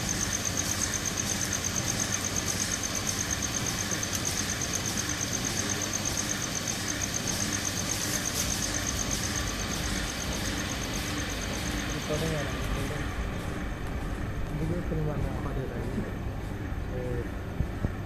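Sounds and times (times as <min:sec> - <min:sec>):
screw conveyor running: 0:00.0 - 0:18.0.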